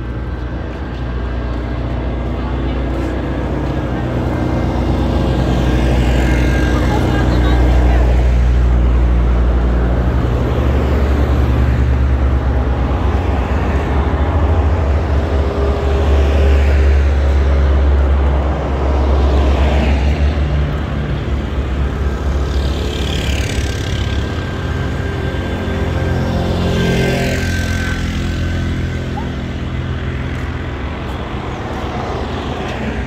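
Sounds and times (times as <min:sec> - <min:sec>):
cars passing: 0:00.0 - 0:33.0
low traffic rumble: 0:00.0 - 0:33.0.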